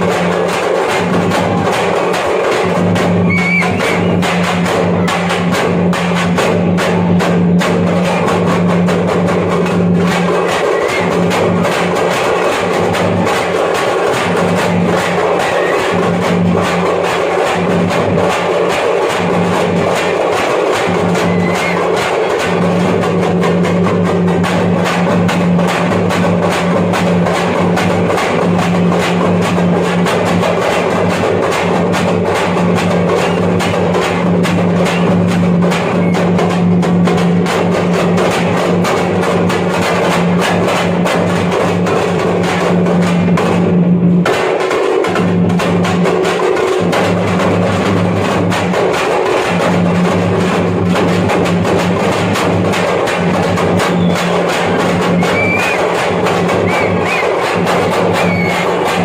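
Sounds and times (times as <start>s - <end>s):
frame drums beaten fast: 0.0s - 59.0s.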